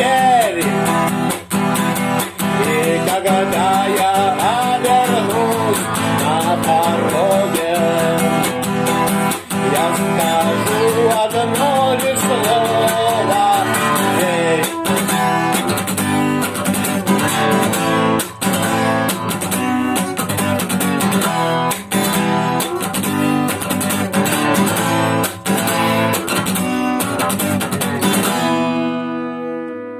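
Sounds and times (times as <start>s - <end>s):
instrumental rock music: 0.0s - 29.9s
wavering lead guitar melody: 0.0s - 29.9s.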